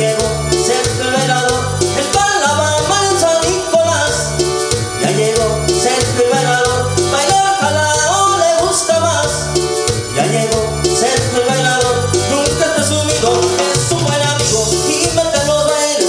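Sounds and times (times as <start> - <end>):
keyboard cumbia music: 0.0 - 16.0.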